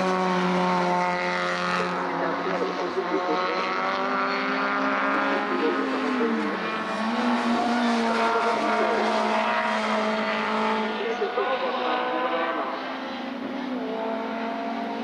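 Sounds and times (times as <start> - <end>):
other car engines: 0.0 - 15.0
race car engine running hard: 0.0 - 15.0.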